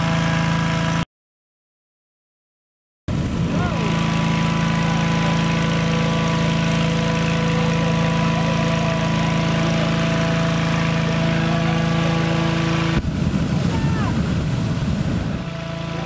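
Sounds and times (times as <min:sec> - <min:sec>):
engine-driven fan running: 0:00.0 - 0:01.0, 0:03.1 - 0:16.0.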